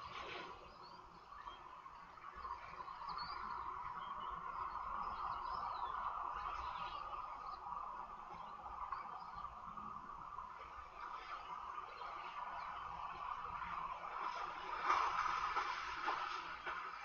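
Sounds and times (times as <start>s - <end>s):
faint bird chirps: 0.0s - 17.0s
steady hissing drone: 0.0s - 17.0s.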